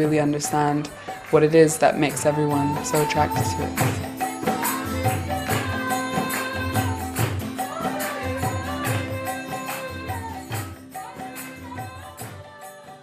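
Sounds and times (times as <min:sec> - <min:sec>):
drumbeats: 0:00.0 - 0:13.0
jingling percussion: 0:00.0 - 0:13.0.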